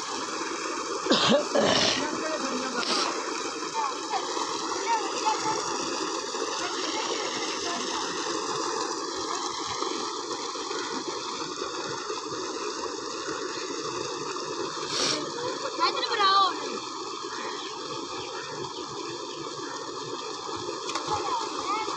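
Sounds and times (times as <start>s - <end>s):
water gushing into a tank: 0.0s - 21.9s.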